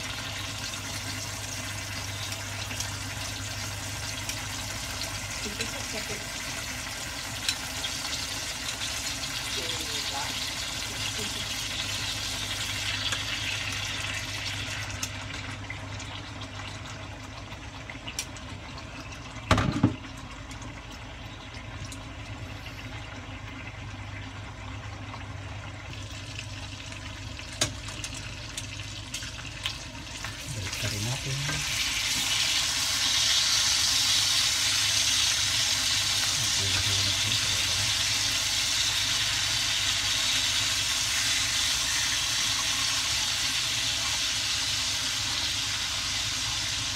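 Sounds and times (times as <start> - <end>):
meat sizzling in a frying pan: 0.0 - 22.2, 22.8 - 46.9.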